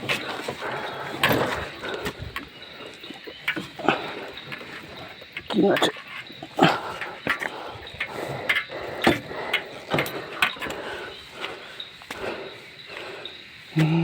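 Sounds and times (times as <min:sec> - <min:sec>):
irregular knocks and clicks: 0:00.0 - 0:13.1.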